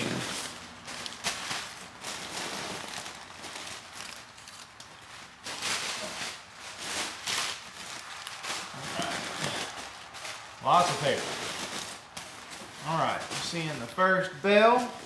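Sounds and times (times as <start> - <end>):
packing paper crinkling: 0.0 - 15.0.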